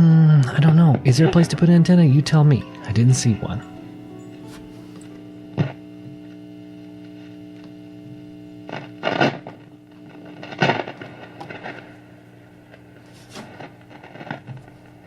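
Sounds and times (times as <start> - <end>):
radio hum: 0.0 - 15.0
static bursts: 0.4 - 15.0.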